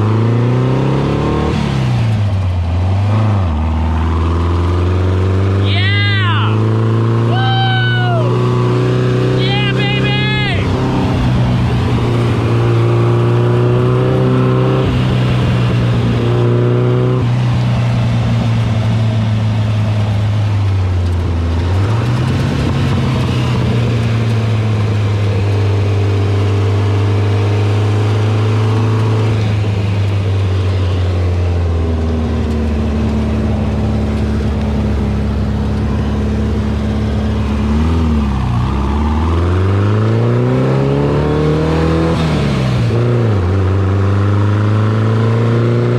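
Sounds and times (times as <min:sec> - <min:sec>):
dune buggy engine revving: 0:00.0 - 0:45.9.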